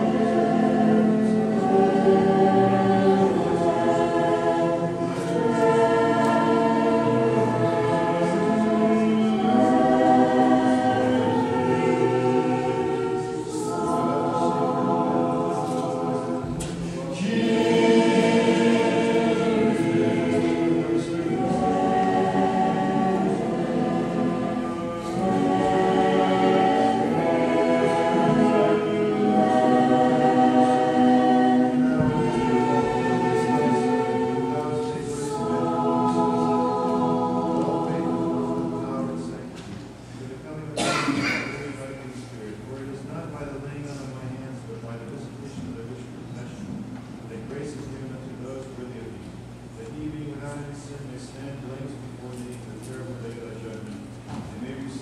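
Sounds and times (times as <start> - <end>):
choir singing a hymn in harmony: 0.0 - 55.0.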